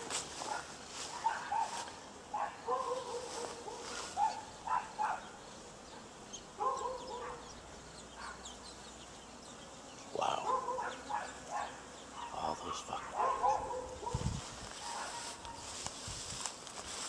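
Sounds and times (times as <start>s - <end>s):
faint outdoor background: 0.0s - 17.0s.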